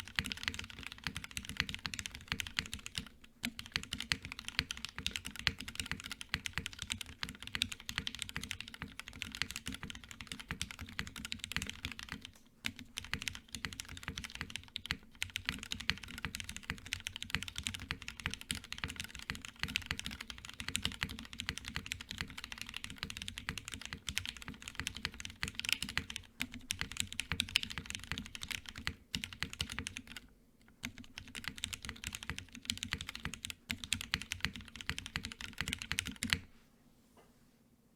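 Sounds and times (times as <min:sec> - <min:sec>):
fast typing on mechanical keyboard: 0:00.0 - 0:30.2, 0:30.8 - 0:36.4.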